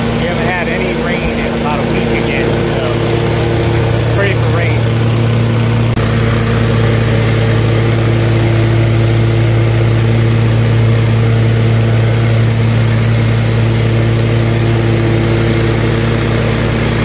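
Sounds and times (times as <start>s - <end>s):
mower engine humming: 0.0s - 17.0s.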